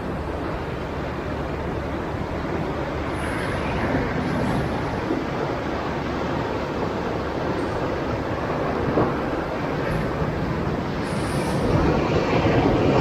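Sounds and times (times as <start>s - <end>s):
waves breaking on rocky shore: 1.9s - 13.0s.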